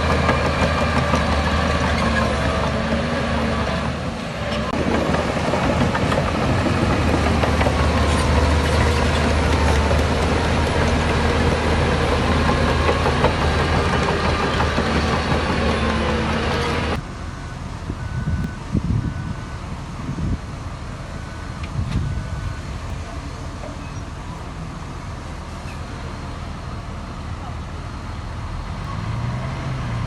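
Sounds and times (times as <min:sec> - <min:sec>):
diesel machinery engine drone: 0:00.0 - 0:30.0.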